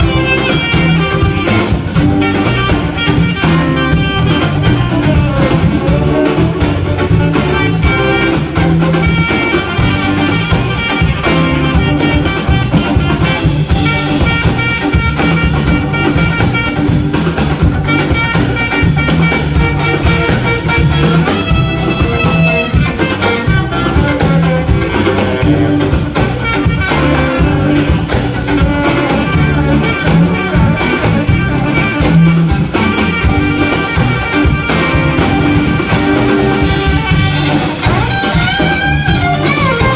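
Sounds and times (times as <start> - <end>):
drum kit: 0.0 - 39.9
electric guitar: 0.0 - 39.9
horn melody: 0.0 - 39.9
live blues band playing: 0.0 - 39.9.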